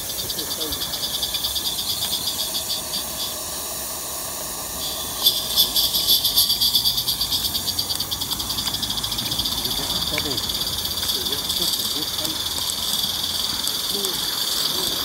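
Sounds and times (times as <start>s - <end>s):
steam hiss: 0.0s - 15.0s
steam locomotive exhaust chuffs: 0.0s - 15.0s.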